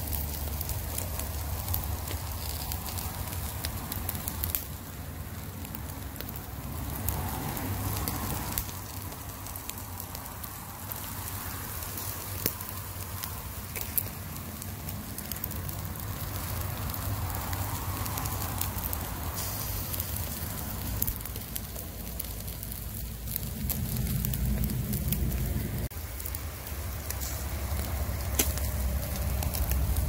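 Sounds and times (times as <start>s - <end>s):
low rumble: 0.0s - 30.0s
sharp crackles: 0.0s - 30.0s.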